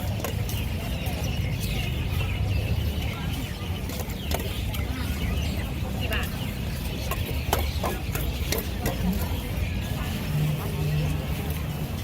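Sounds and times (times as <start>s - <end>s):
indistinct crowd voices: 0.0s - 12.0s.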